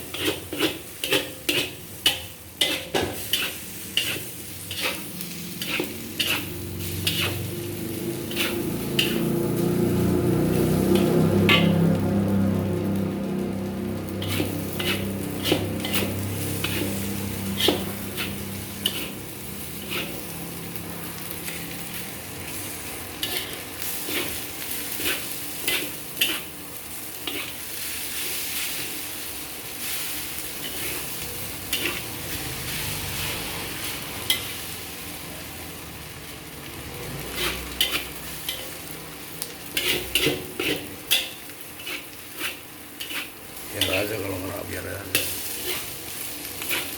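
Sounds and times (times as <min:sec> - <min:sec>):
metal spatula scraping a pan: 0:00.0 - 0:09.6, 0:10.5 - 0:12.0, 0:14.1 - 0:29.1, 0:29.8 - 0:34.6, 0:37.2 - 0:38.9, 0:39.6 - 0:46.9
rice sizzling in a hot pan: 0:00.0 - 0:46.9.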